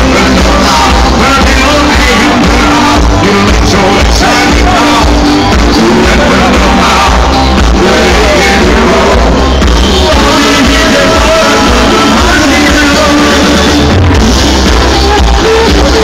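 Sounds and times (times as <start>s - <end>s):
loud rock music with singer: 0.0s - 16.0s.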